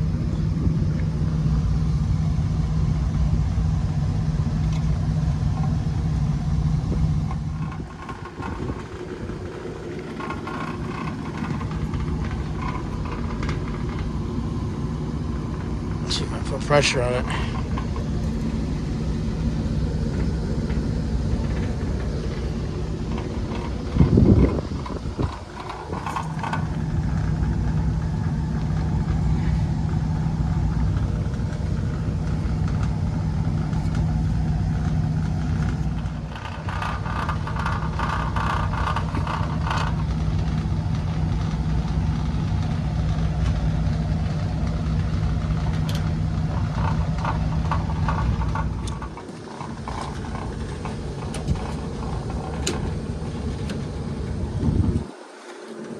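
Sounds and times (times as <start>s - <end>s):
fan unit humming: 0.0s - 55.9s
high-pitched rattle: 4.6s - 55.9s.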